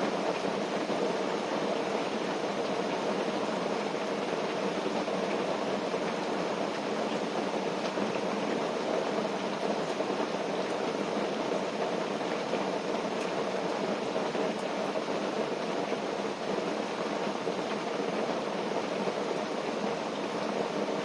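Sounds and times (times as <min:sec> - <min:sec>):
rain on a tent: 0:00.0 - 0:21.0.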